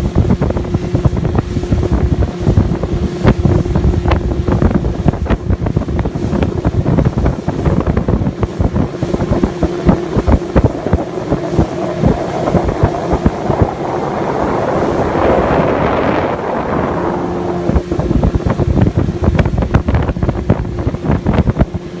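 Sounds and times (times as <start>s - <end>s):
motorboat engine: 0.0s - 22.0s
rushing water: 0.0s - 22.0s
wind buffeting microphone: 0.0s - 22.0s.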